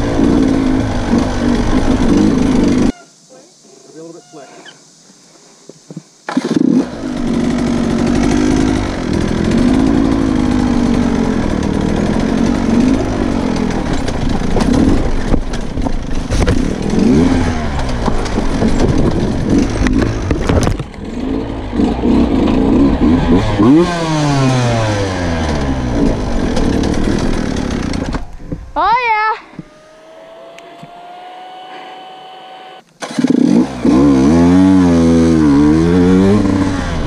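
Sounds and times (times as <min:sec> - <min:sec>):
motorcycle engine revving: 0:00.0 - 0:02.9, 0:06.3 - 0:37.0.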